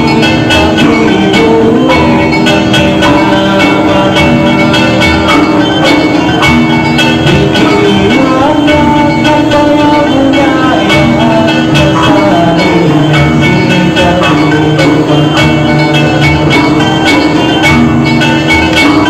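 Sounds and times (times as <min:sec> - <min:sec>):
music with tuned percussion: 0:00.0 - 0:19.0.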